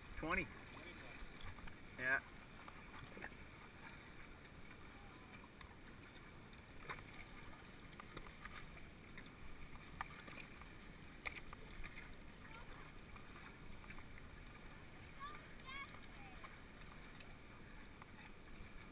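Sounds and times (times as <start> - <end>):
water lapping and splashing: 0.0 - 18.9.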